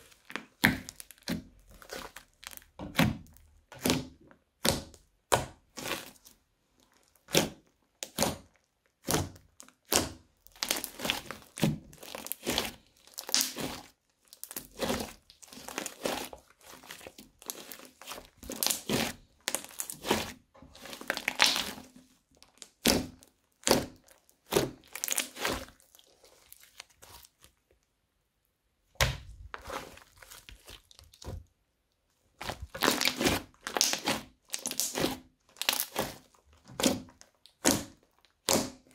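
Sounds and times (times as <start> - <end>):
crunchy slime squeezed by hand: 0.0 - 6.3, 6.9 - 27.5, 29.0 - 31.5, 32.4 - 38.9.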